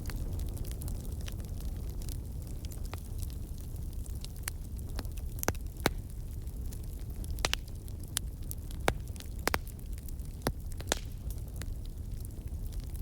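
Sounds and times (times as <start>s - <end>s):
burning logs crackling and popping: 0.0s - 13.0s
low rumble of flames: 0.0s - 13.0s.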